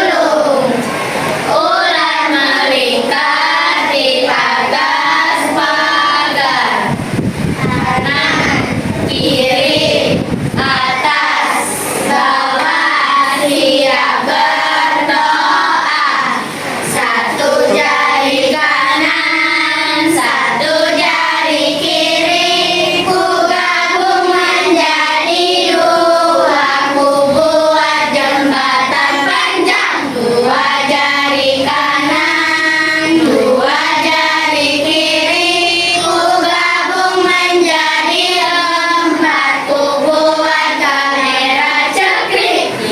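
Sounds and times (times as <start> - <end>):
children singing: 0.0 - 42.9.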